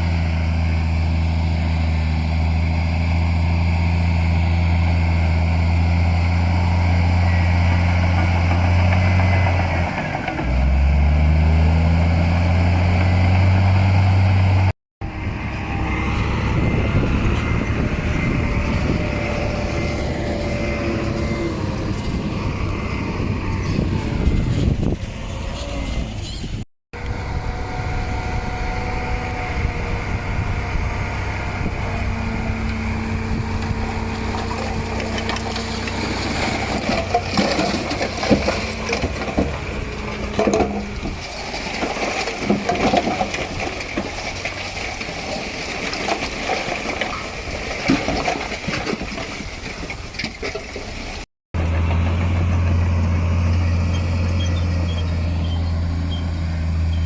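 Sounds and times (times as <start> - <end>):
deep engine hum: 0.0 - 41.2, 51.5 - 57.0
heavy diesel machinery running: 0.0 - 49.2, 49.9 - 57.0.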